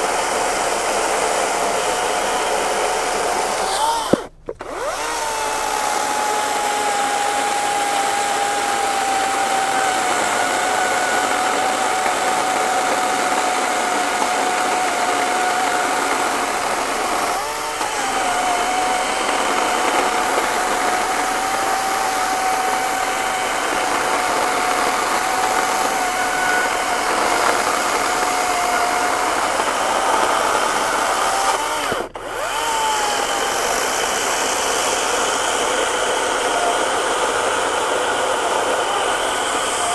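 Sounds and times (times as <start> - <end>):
chainsaw motor whine: 0.0 - 39.9
chain rasping through wood: 0.2 - 39.9.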